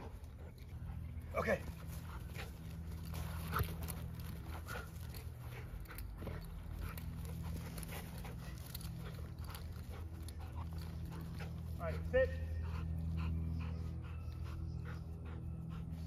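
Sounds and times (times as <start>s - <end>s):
dog panting: 0.0s - 16.0s
low hum: 0.0s - 16.0s.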